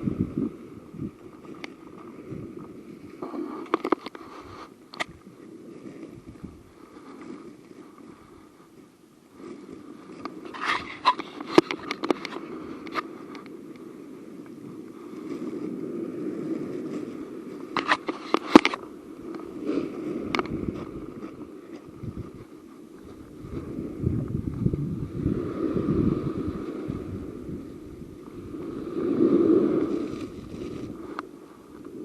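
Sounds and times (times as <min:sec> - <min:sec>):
low steady rush: 0:00.0 - 0:32.0.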